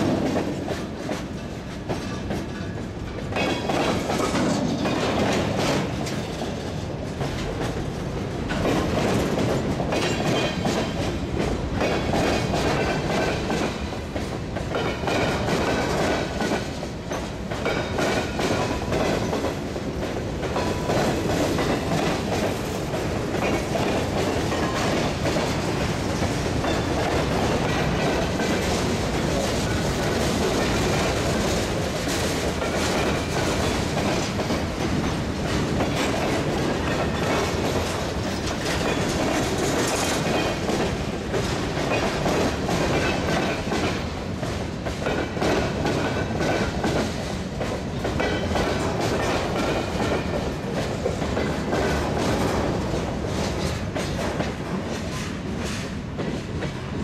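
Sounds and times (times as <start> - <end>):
freight train wheels rumbling: 0.0 - 57.0
wheels clicking over rail joints: 0.0 - 57.0.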